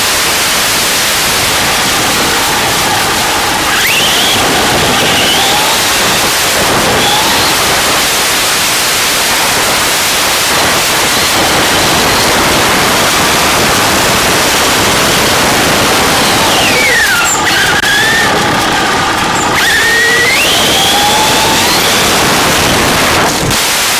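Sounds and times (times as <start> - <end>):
electric motor whine: 0.0 - 23.9
loud static hiss: 0.0 - 23.9.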